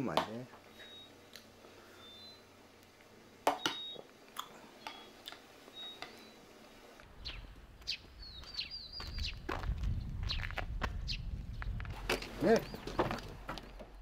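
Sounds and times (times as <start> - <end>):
small birds chirping: 0.4 - 14.0.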